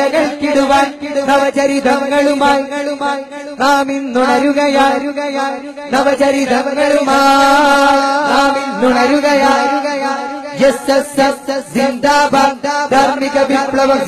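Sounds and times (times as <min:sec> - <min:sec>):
voices singing and chanting: 0:00.0 - 0:03.0, 0:03.6 - 0:14.0.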